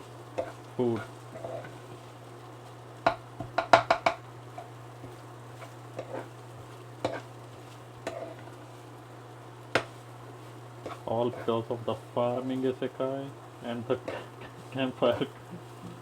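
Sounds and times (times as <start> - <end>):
utensil scraping in cooking pot: 0.0 - 9.0, 9.7 - 12.7, 13.9 - 16.0
steady low hum: 0.0 - 16.0.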